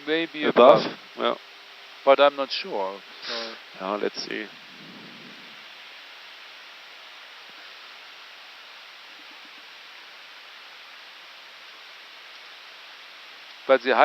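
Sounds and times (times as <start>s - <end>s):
air conditioning: 0.0s - 14.0s
cockpit airflow hiss: 0.0s - 14.0s.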